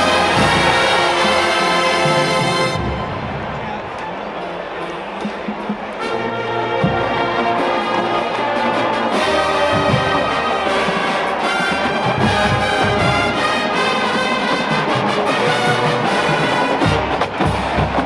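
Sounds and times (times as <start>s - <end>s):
marching band brass chords: 0.0s - 18.0s.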